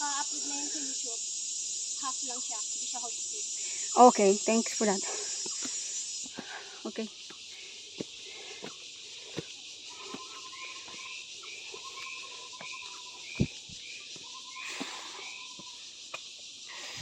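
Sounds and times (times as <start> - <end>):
high buzz of forest insects: 0.0 - 17.0.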